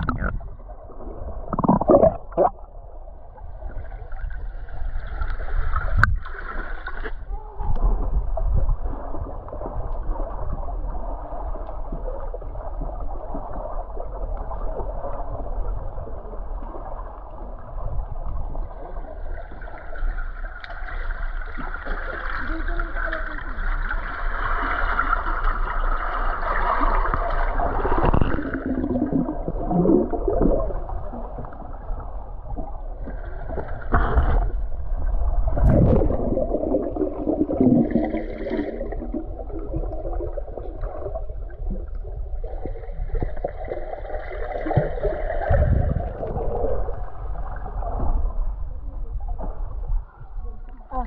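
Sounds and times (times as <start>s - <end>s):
underwater gurgling and sloshing: 0.0s - 51.0s.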